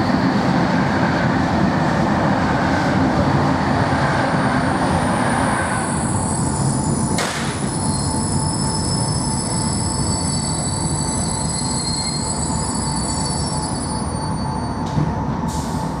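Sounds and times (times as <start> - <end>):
passing train rush: 0.0 - 16.0
train wheels rumbling on rail: 0.0 - 16.0.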